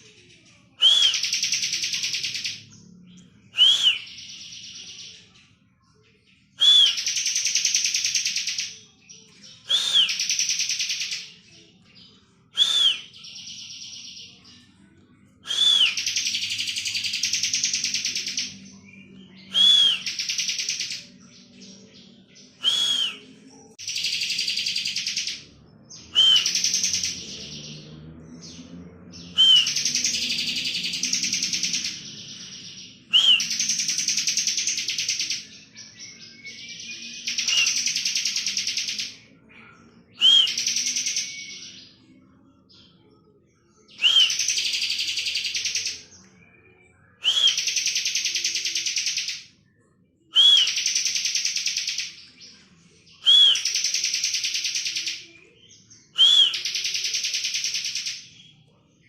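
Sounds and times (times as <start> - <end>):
bird singing buzzy trills: 0.0 - 58.7.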